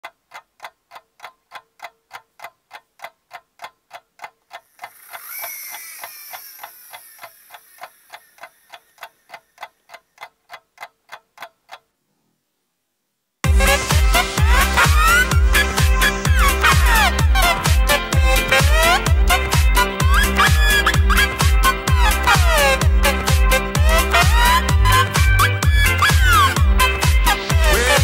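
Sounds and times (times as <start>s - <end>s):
clock ticking: 0.0s - 12.0s, 13.4s - 28.0s.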